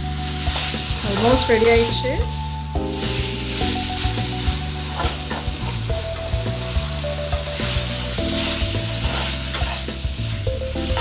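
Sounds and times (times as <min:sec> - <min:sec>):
chicken sizzling in oil: 0:00.0 - 0:11.0
spoon stirring and scraping pan: 0:00.1 - 0:11.0.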